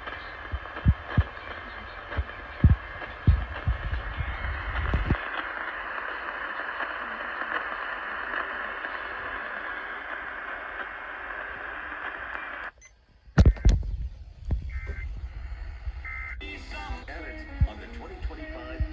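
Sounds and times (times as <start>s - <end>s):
radio static hiss: 0.0s - 18.9s.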